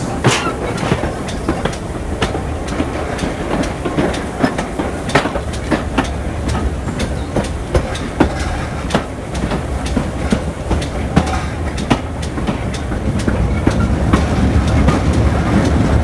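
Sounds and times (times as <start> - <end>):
steady low rumble: 0.0 - 16.0
train wheels clattering over rail joints: 0.0 - 16.0.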